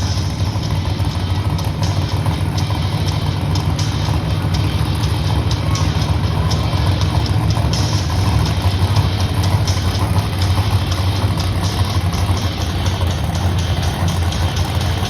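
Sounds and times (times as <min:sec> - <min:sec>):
truck engine deep rumble: 0:00.0 - 0:15.0.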